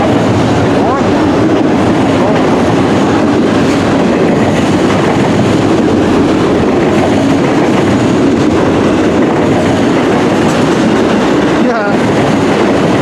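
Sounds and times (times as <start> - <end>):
steel train wheels on rails: 0.0 - 13.0.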